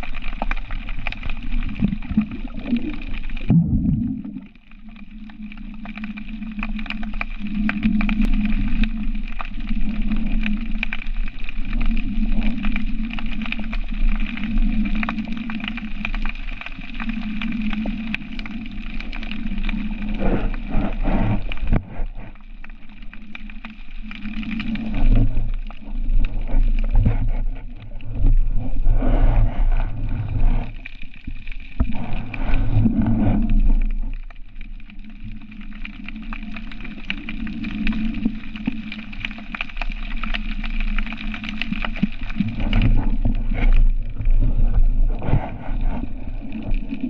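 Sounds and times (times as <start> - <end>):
underwater rumble of water movement: 0.0 - 47.0.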